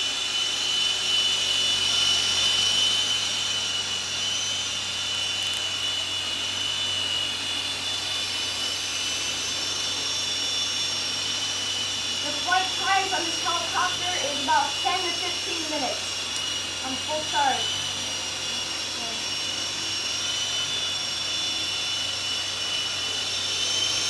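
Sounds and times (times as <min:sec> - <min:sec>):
rc helicopter whining: 0:00.0 - 0:24.0.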